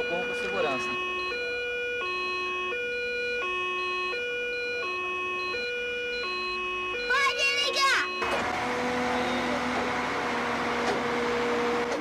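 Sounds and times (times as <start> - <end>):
two-tone fire truck siren: 0.0 - 12.0.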